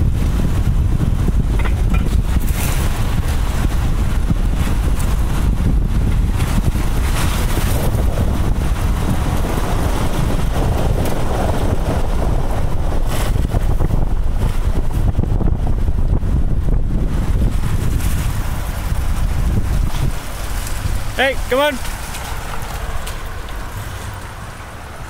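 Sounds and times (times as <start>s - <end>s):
moving car rumble: 0.0s - 25.0s
wind buffeting microphone: 0.0s - 25.0s.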